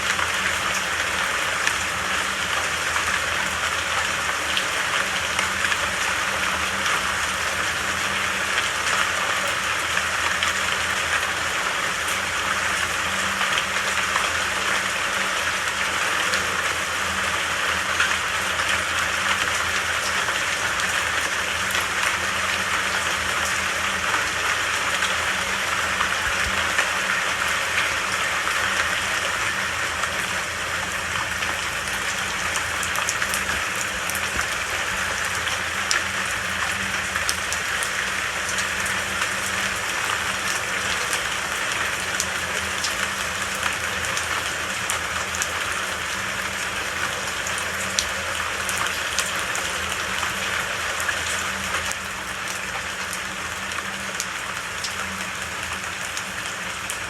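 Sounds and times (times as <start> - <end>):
rain pattering on leaves: 0.0 - 57.0.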